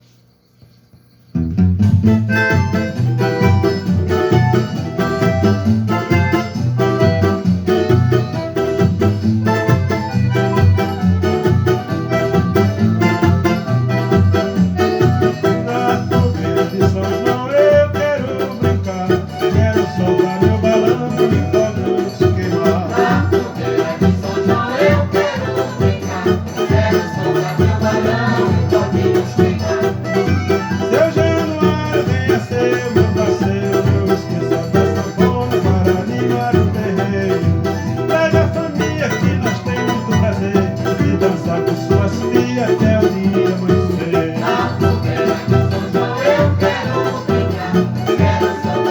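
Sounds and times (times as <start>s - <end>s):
banjo plucked melody: 1.4s - 48.9s.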